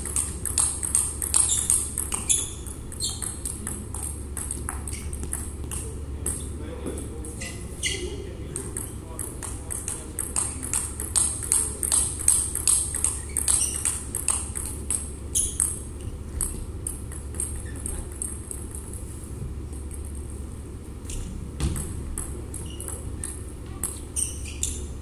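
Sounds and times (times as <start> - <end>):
table tennis balls clicking: 0.0 - 19.1, 19.7 - 20.4, 21.0 - 24.9
steady low hum: 0.0 - 25.0.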